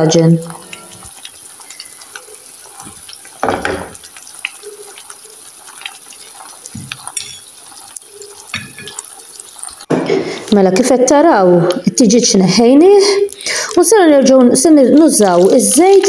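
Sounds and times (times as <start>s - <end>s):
meat sizzling in oil: 0.0s - 11.8s, 12.7s - 16.0s.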